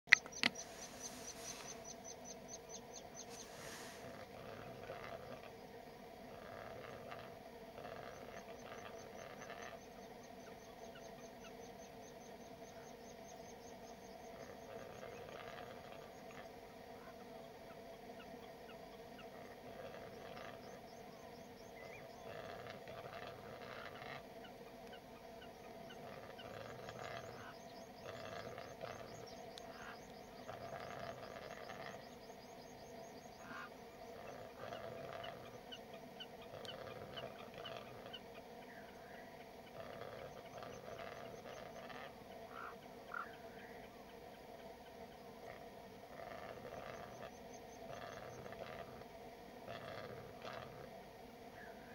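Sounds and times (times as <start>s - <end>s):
steady low bird sound: 0.0s - 51.9s
bird hoarse calls: 0.1s - 51.0s.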